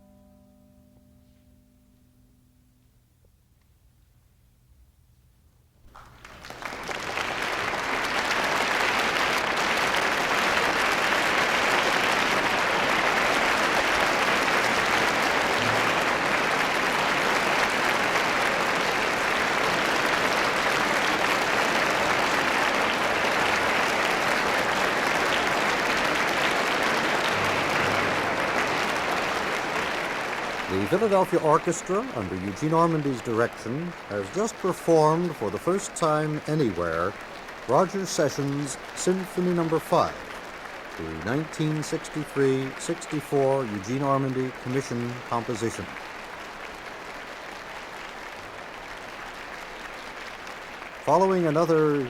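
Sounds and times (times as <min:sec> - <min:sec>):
audience applause: 0:05.9 - 0:52.0.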